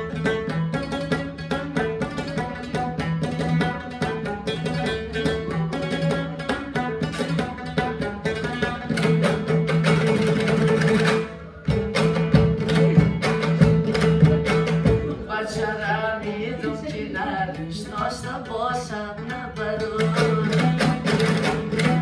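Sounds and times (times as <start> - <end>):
instrumental music with drumbeat: 0.0 - 15.8, 19.2 - 22.0.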